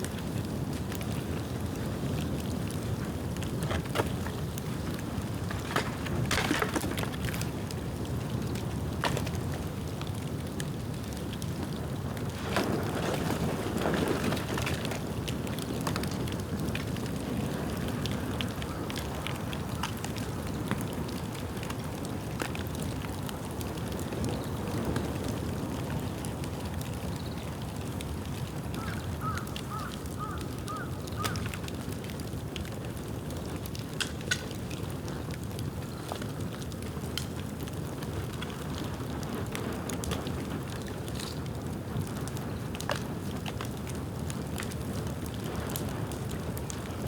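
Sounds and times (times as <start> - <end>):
bamboo bonfire crackling: 0.0 - 47.0.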